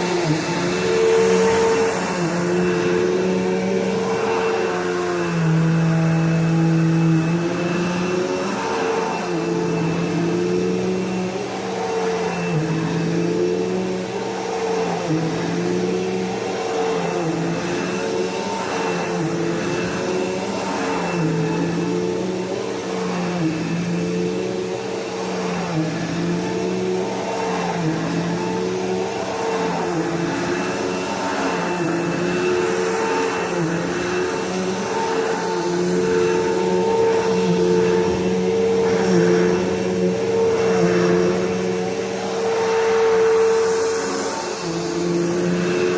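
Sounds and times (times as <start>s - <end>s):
upright vacuum cleaner running: 0.0s - 45.9s.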